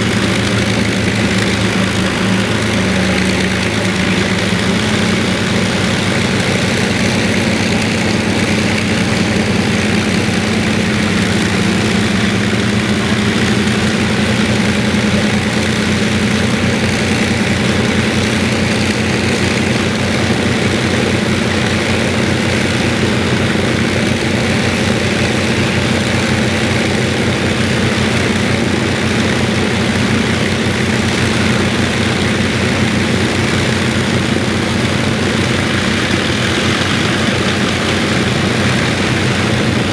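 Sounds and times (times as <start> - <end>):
piston aircraft engines idling: 0.0 - 39.9.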